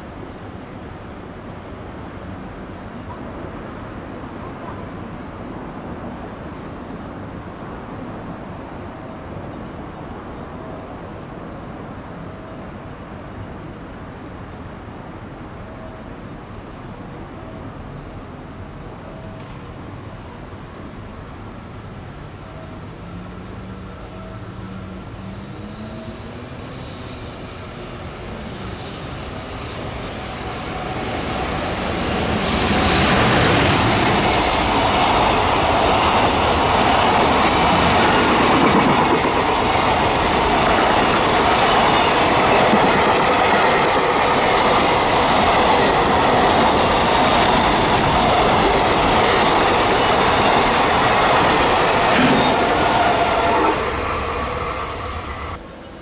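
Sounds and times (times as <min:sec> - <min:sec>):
freight train passing: 0:00.0 - 0:56.0.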